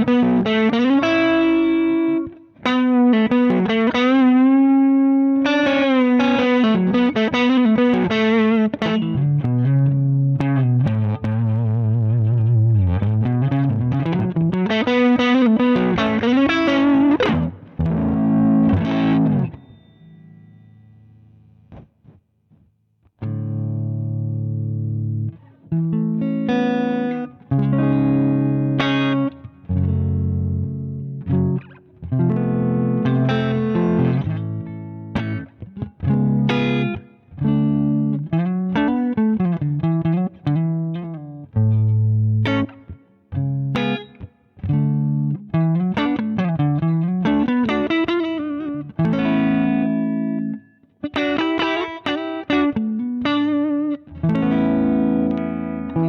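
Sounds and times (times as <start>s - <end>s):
overdriven electric guitar: 0.0s - 56.0s.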